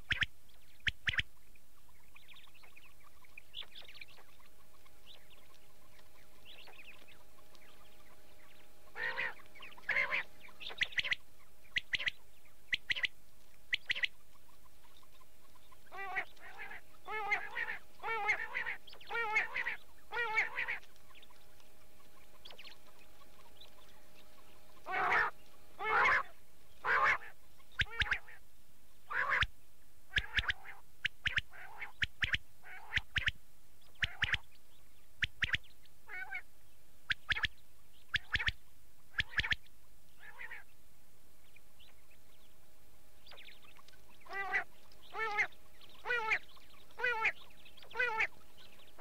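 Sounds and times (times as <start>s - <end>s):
quail calls: 0.0s - 28.4s, 29.1s - 29.5s, 30.1s - 34.5s, 35.2s - 36.5s, 37.1s - 40.7s, 43.2s - 49.0s
background hiss: 0.0s - 49.0s.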